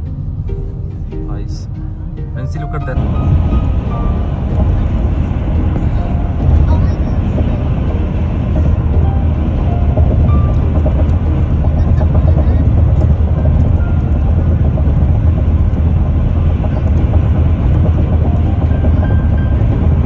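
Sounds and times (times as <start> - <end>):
car tyre and engine rumble: 0.0 - 20.0.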